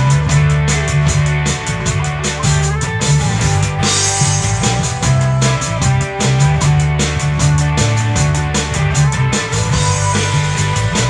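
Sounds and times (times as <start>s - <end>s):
drum kit beat: 0.0s - 11.0s
electric guitar: 0.0s - 11.0s.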